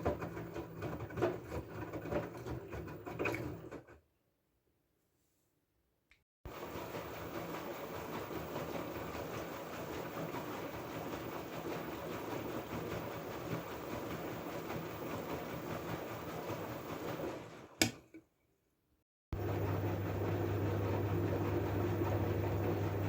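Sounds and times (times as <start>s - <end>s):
washing machine churning: 0.0s - 4.0s, 6.5s - 18.1s, 19.3s - 23.0s.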